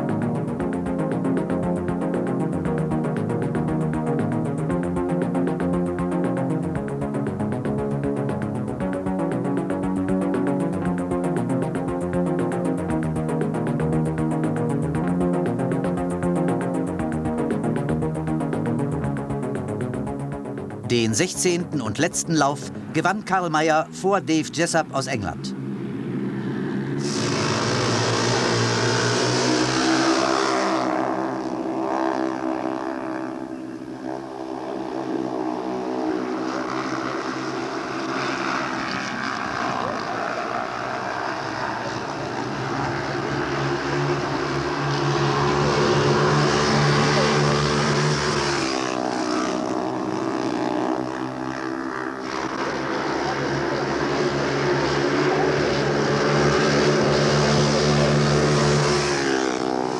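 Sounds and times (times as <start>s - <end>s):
motorcycle engines racing: 0.0s - 59.9s.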